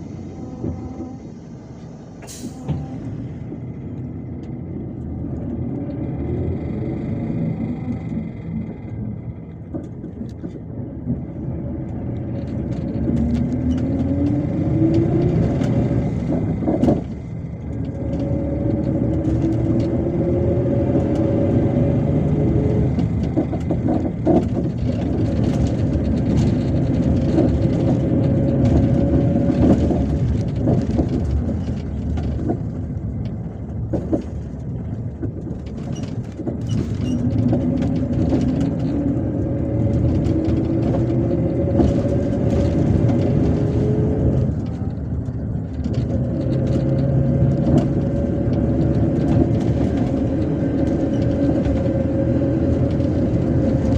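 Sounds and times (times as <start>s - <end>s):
coach engine: 0.0s - 53.9s
road noise: 0.0s - 53.9s.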